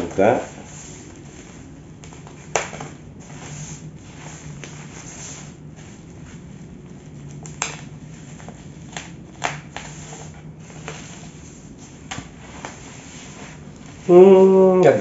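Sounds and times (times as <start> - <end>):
plastic wrap crackling: 0.0 - 15.0.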